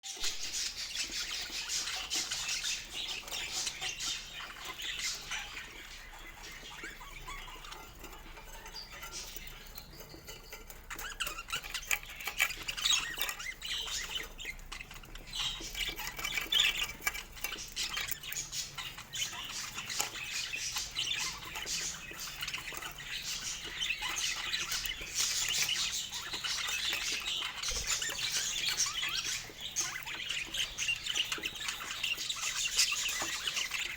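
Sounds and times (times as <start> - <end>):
budgerigars chattering and squawking: 0.1 - 33.9.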